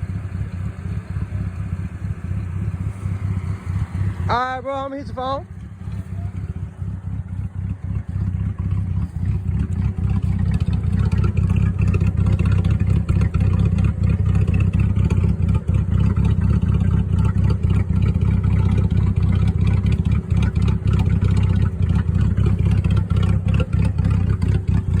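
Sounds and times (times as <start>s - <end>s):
car engine idling with choppy lope: 0.0s - 25.0s.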